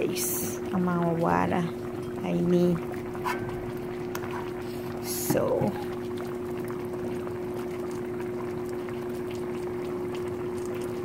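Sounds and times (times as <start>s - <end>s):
pot bubbling and popping: 0.0s - 11.0s.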